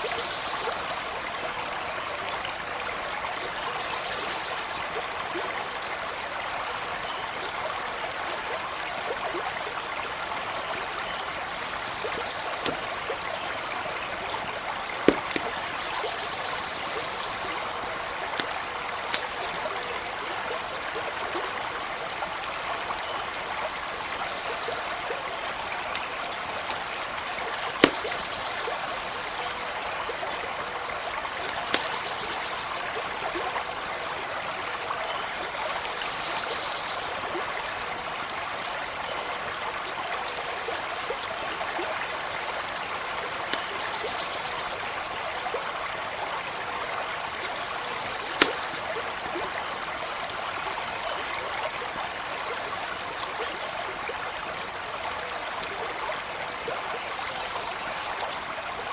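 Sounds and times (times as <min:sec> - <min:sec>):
stream running over stones: 0:00.0 - 0:58.9
campfire crackling: 0:00.1 - 0:35.1, 0:36.9 - 0:58.9.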